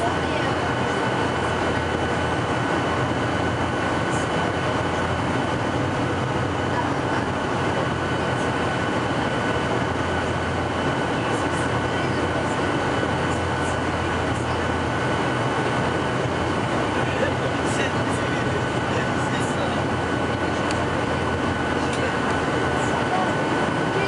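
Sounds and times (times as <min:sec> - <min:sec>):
airliner cabin engine rush: 0:00.0 - 0:24.0.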